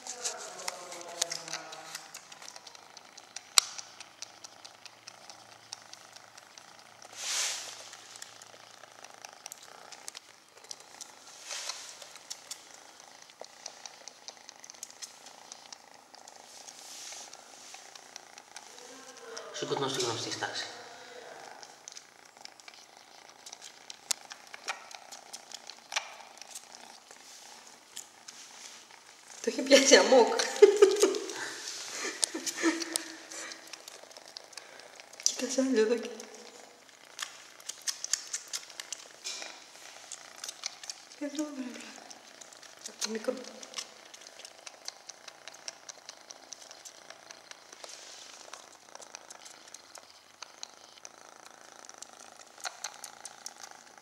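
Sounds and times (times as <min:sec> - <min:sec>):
kitten suckling: 0:00.0 - 0:54.0.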